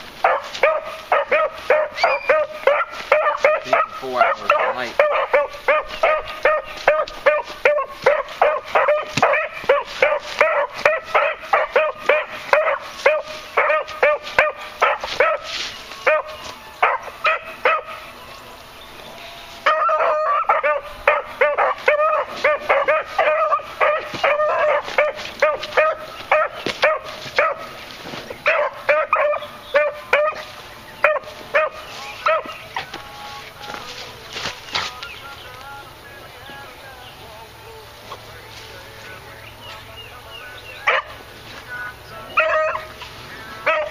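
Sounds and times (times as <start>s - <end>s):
dogs baying: 0.2s - 18.2s, 18.9s - 35.4s, 38.0s - 43.9s.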